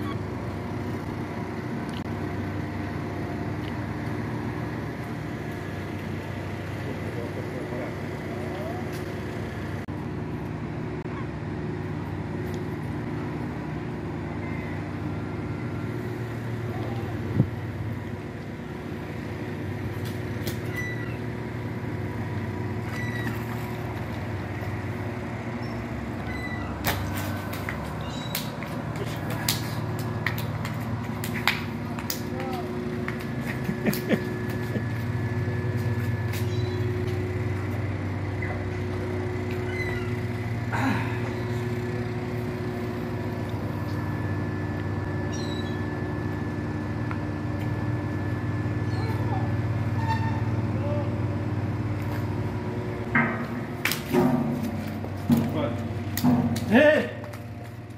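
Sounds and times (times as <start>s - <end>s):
engine idling hum: 0.0s - 57.9s.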